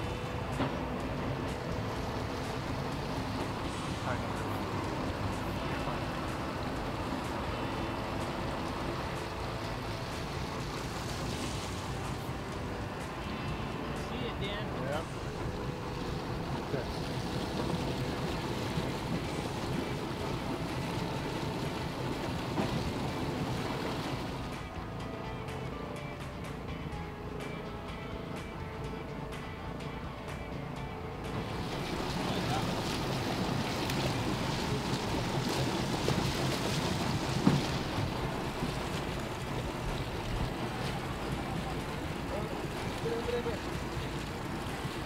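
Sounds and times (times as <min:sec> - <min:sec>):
water washing: 0:00.0 - 0:26.8, 0:27.7 - 0:45.0
boat motor running low: 0:00.0 - 0:45.0
wind: 0:00.0 - 0:45.0.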